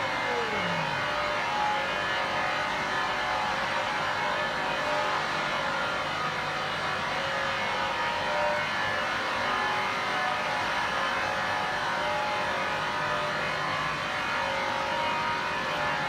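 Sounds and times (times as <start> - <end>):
mixer motors droning: 0.0 - 16.0.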